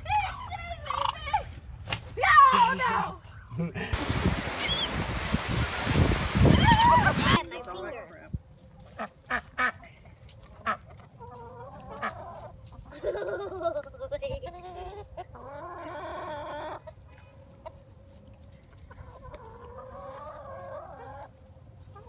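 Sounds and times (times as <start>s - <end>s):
hens clucking: 0.0s - 1.4s, 3.3s - 22.0s.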